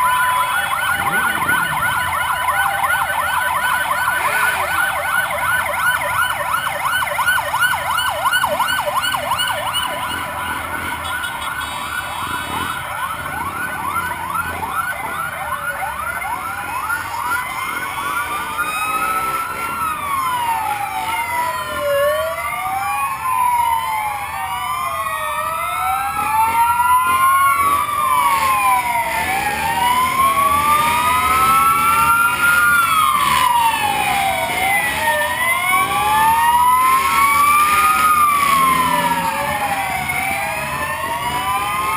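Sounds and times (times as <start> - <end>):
siren yelping: 0.0 - 41.9
sirens wailing: 0.0 - 41.9.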